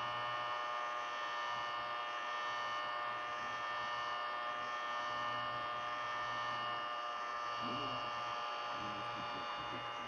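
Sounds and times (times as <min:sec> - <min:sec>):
heat gun fan humming: 0:00.0 - 0:10.0.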